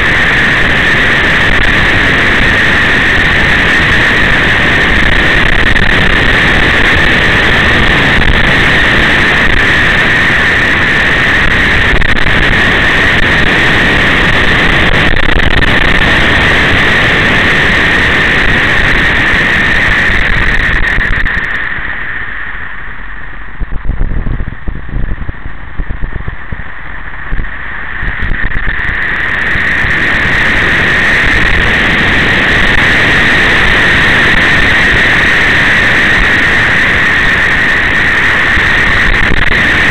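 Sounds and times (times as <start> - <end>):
vehicle driving wind noise: 0.0 - 39.9.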